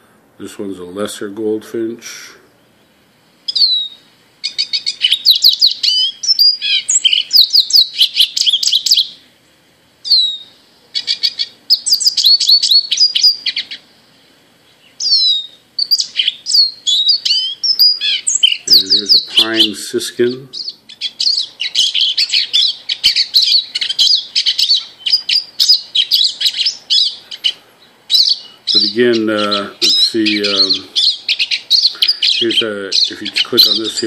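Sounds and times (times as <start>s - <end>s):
recorded birdsong through speaker: 0.0s - 34.0s.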